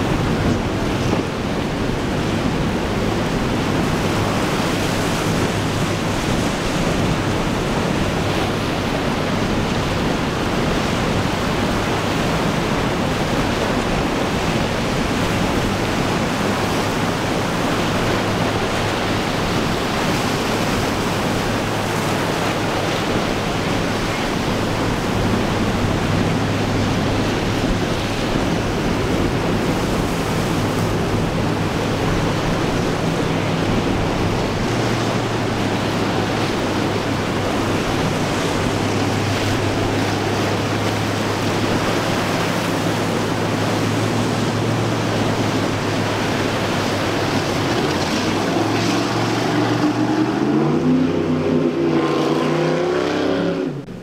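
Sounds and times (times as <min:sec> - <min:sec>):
sea waves and surf: 0:00.0 - 0:54.0
wind buffeting microphone: 0:00.0 - 0:54.0.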